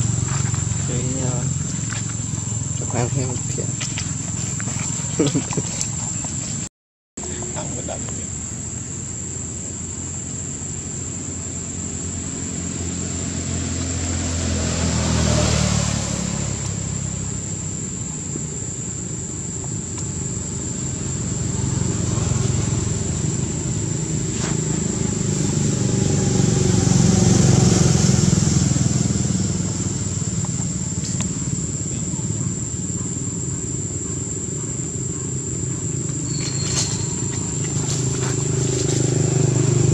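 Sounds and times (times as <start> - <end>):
motor vehicles passing: 0.0 - 39.9.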